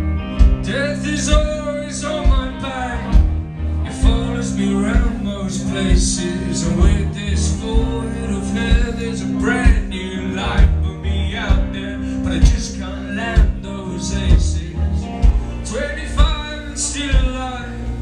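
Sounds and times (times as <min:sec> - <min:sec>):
bass and keyboard notes: 0:00.0 - 0:18.0
electric guitar: 0:00.0 - 0:18.0
drums steady beat: 0:00.2 - 0:18.0
man singing: 0:00.6 - 0:18.0.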